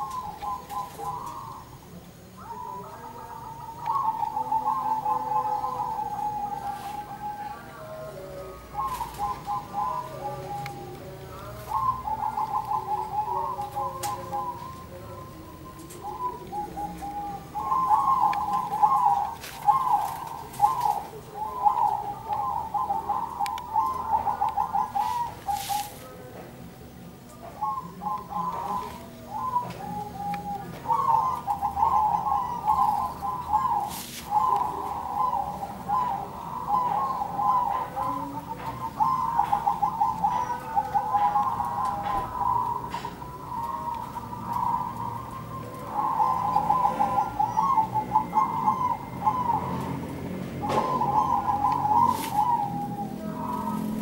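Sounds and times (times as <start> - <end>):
doves cooing in trills: 0.0 - 54.0.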